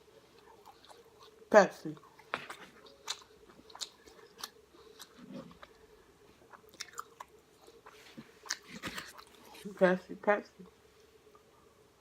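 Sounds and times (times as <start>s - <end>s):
person chewing food: 0.0s - 9.7s.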